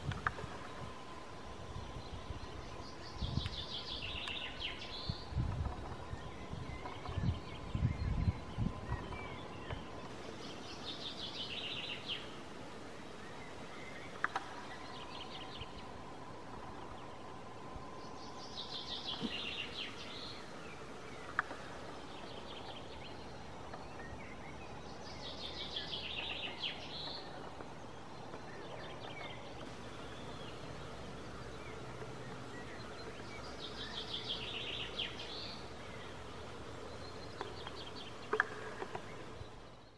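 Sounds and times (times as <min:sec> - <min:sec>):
outdoor background noise: 0:00.0 - 0:39.9
songbird trilling: 0:01.5 - 0:12.4, 0:13.1 - 0:39.9.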